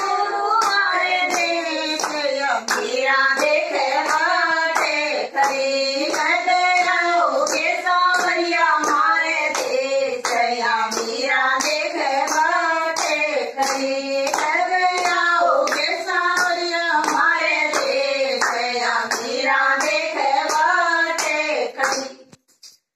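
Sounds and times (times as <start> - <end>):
women singing together: 0.0 - 22.3
hand claps: 0.0 - 22.9.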